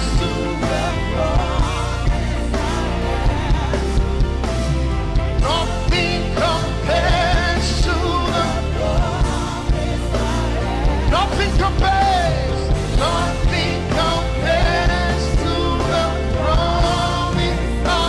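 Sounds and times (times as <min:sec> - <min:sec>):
gospel worship band playing: 0:00.0 - 0:18.0.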